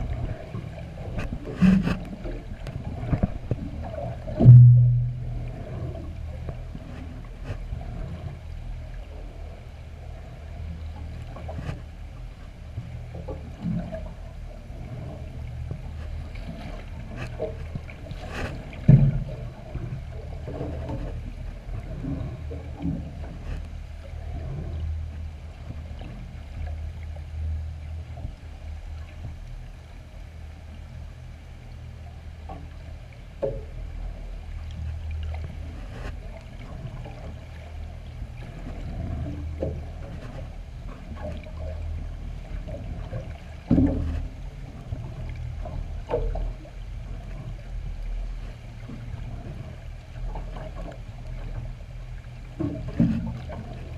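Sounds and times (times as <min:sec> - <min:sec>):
low underwater rumble: 0:00.0 - 0:53.9.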